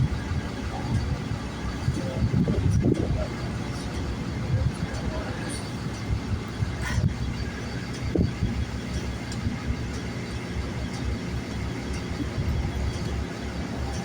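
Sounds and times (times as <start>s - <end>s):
bus engine rumbling: 0.0s - 14.0s.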